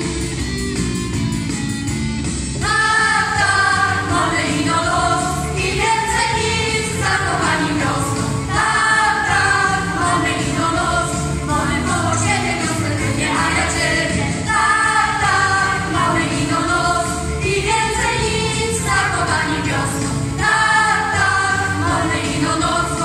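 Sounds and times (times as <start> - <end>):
women singing in chorus: 2.6 - 23.0.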